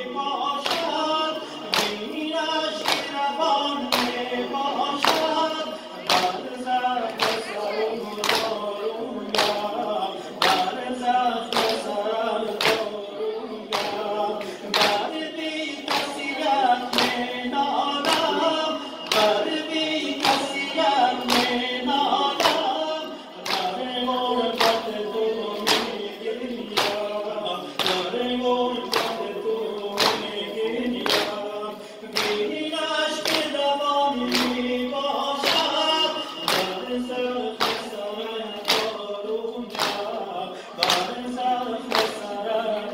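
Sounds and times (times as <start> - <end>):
men chanting in unison: 0.0 - 42.9.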